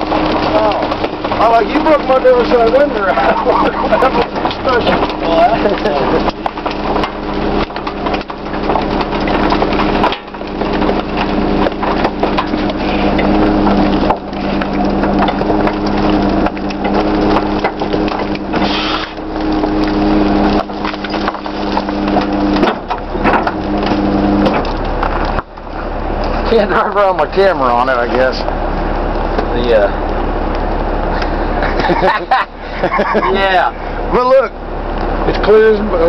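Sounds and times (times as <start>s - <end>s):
engine and hydraulic pump drone: 0.0s - 36.0s
trash cracking and crunching: 0.0s - 36.0s.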